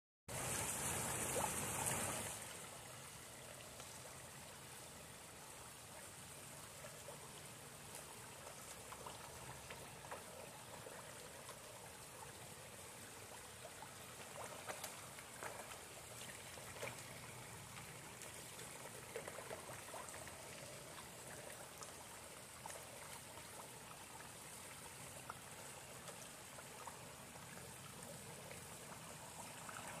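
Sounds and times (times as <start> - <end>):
small waterfall trickling: 0.3 - 30.0.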